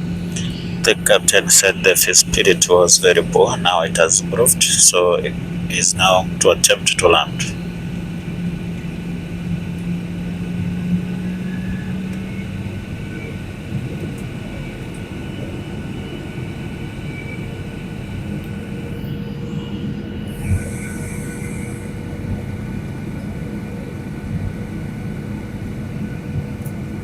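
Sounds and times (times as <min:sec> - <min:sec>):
airliner cabin engine and airflow noise: 0:00.0 - 0:27.0
low hum: 0:00.0 - 0:27.0.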